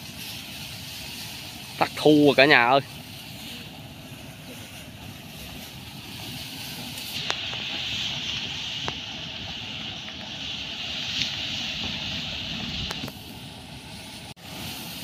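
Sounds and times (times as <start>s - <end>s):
tall grass rustling: 0.0s - 15.0s.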